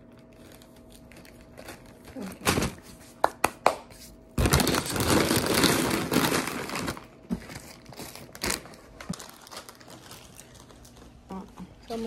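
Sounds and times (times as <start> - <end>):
crinkling and rustling: 0.0 - 3.1, 4.4 - 12.0.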